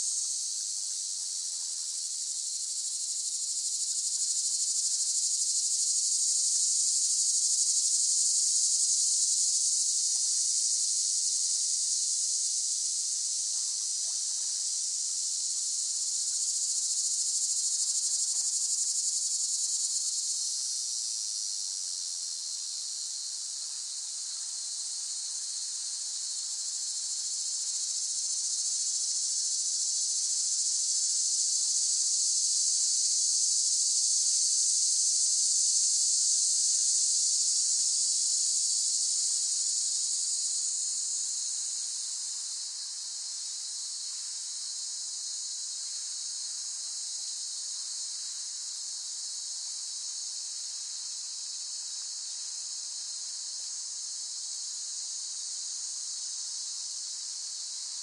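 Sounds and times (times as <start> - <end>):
cicadas buzzing: 1.9 - 12.7, 13.3 - 58.0.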